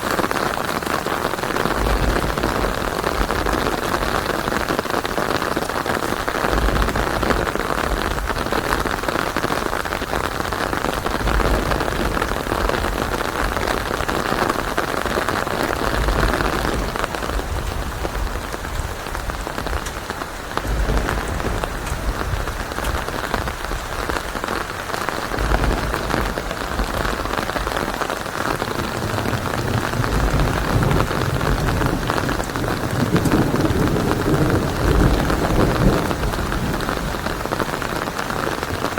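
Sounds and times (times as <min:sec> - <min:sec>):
heavy rain: 0:00.0 - 0:38.9
low rolling thunder: 0:00.0 - 0:38.9.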